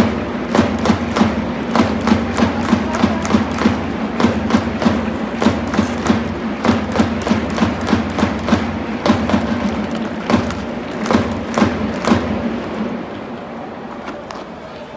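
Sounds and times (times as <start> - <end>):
sharp rhythmic thumps: 0.0 - 12.6
stadium crowd ambience: 0.0 - 14.9.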